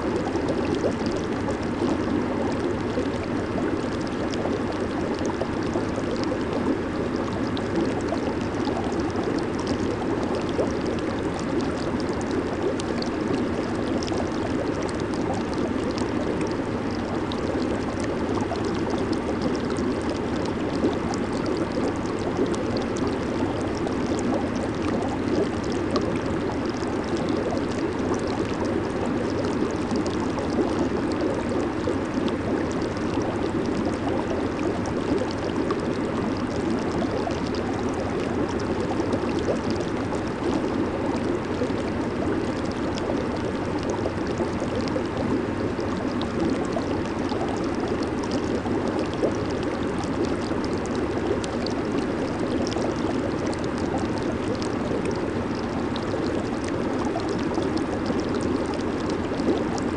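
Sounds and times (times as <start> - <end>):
hot tub water bubbling: 0.0 - 59.9.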